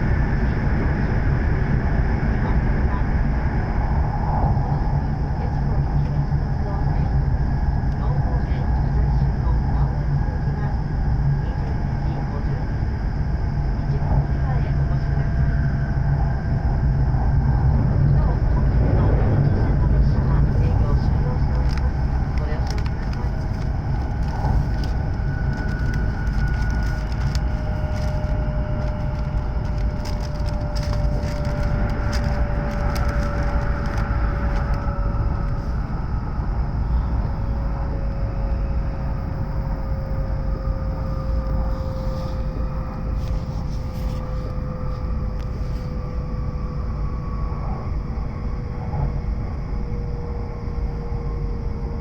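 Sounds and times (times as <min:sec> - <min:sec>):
train interior low rumble: 0:00.0 - 0:52.0.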